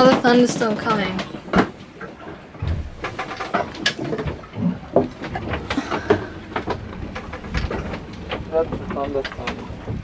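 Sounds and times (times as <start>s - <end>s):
knocks and clicks of boat fittings: 0.0s - 10.0s
low rumble and hum: 1.4s - 10.0s.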